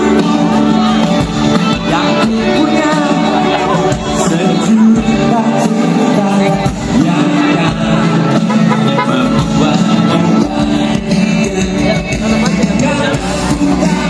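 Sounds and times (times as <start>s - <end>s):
loud band music: 0.0s - 14.0s
person singing: 0.0s - 14.0s.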